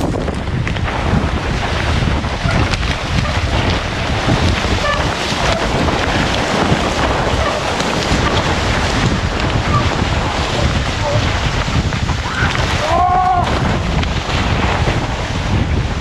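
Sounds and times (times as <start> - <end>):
bike knocking and rattling: 0.0 - 16.0
wind noise on microphone: 0.0 - 16.0.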